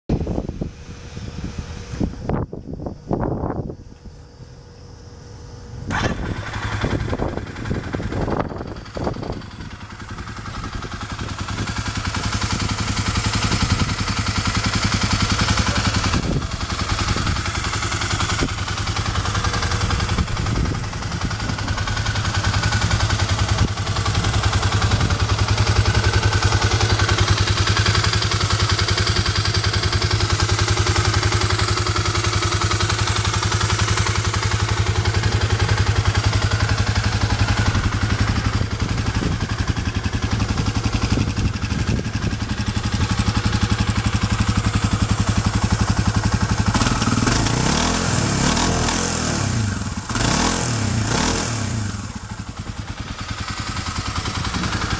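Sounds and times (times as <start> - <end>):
motorcycle engine idling: 0.1 - 54.9.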